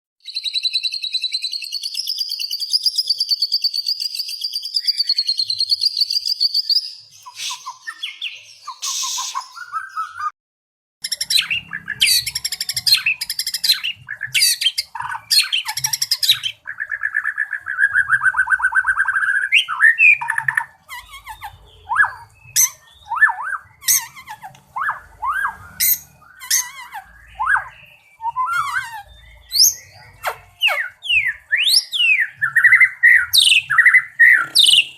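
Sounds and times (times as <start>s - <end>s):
songbird singing: 0.2s - 10.4s, 11.0s - 34.9s.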